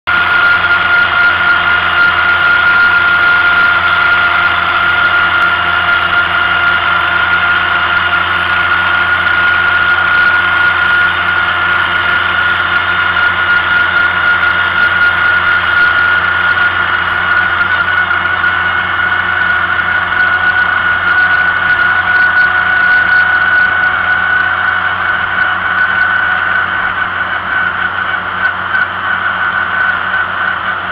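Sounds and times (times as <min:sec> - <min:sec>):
tractor engine running: 0:00.0 - 0:30.9
high-pitched whine: 0:00.1 - 0:30.9.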